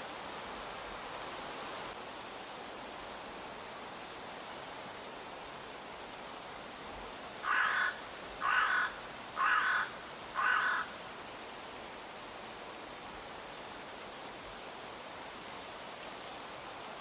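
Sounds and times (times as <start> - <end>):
rushing background hiss: 0.0 - 17.0.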